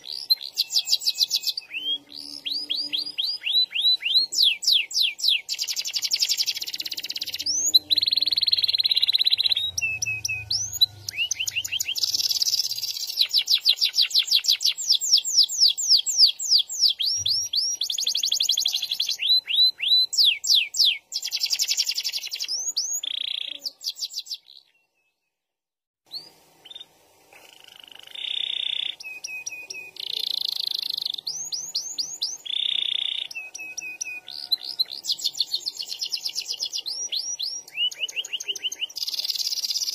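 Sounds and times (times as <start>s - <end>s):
canary singing trills: 0.0s - 25.2s, 26.1s - 39.9s.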